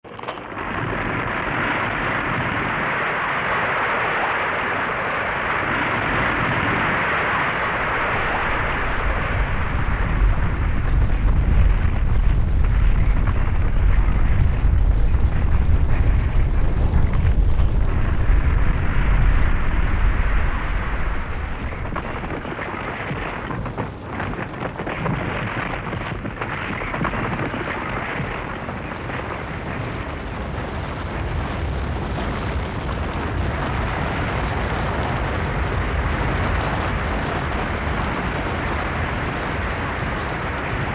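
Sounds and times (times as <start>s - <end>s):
deep rumble: 0.0s - 40.9s
snow rushing: 1.2s - 40.9s.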